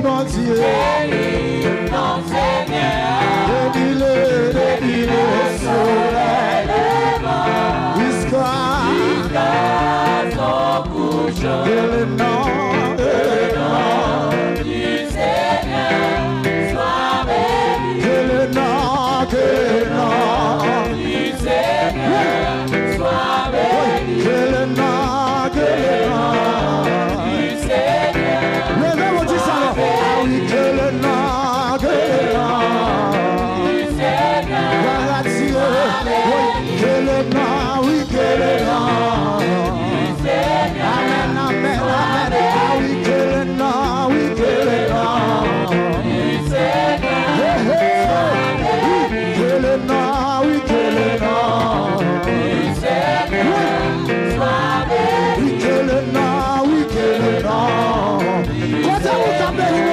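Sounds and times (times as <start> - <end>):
gospel singing with vibrato: 0.0 - 59.9
instrumental backing with beat: 0.0 - 59.9.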